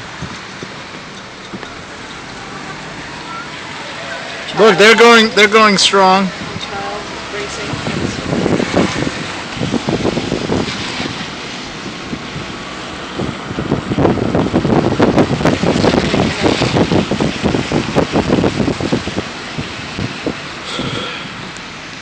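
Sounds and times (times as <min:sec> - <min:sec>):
wind buffeting microphone: 0:00.0 - 0:02.4, 0:06.3 - 0:21.7.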